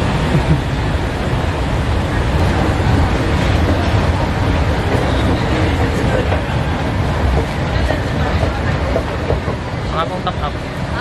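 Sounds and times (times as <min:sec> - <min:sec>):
escalator machinery rumble: 0:00.0 - 0:11.0.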